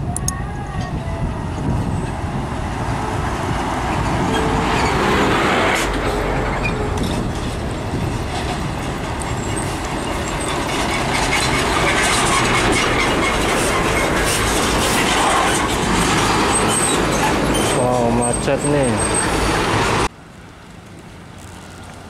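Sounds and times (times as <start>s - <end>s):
tyre noise on road: 0.0s - 22.0s
truck engine: 1.3s - 22.0s.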